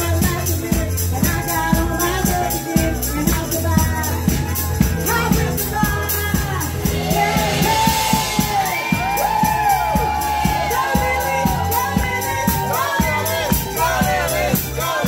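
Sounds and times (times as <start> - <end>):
amplified music with steady beat: 0.0 - 15.0
woman singing into microphone: 0.0 - 15.0
crowd whooping and cheering: 1.2 - 15.0.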